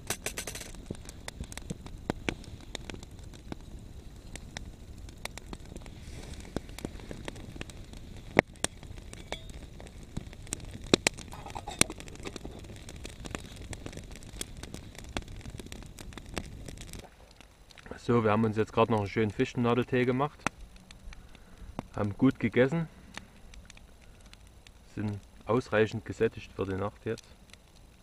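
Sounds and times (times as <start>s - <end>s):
campfire crackling: 0.0s - 28.0s
fire popping and snapping: 0.0s - 28.0s.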